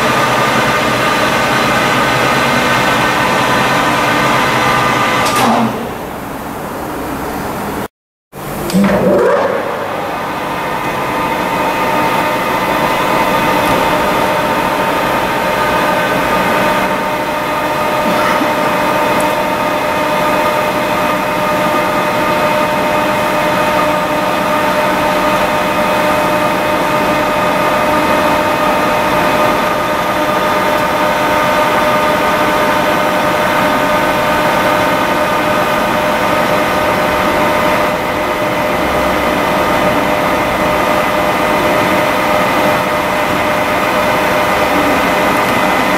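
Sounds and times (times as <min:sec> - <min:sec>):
lathe running with mechanical whine: 0:00.0 - 0:06.0, 0:08.4 - 0:45.9.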